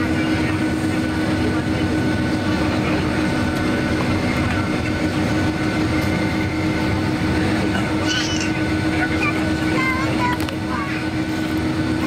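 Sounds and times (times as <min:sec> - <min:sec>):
aircraft rolling rumble: 0:00.0 - 0:12.0
jet engines humming at idle: 0:00.0 - 0:12.0.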